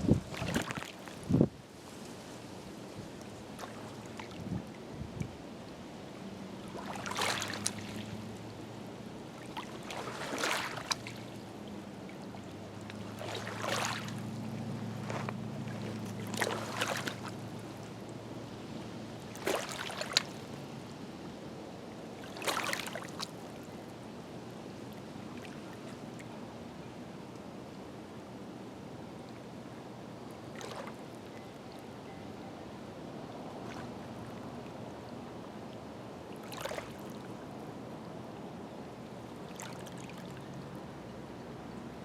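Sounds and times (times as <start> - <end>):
small waves lapping on shore: 0.0 - 42.0
low steady hum: 2.5 - 42.0.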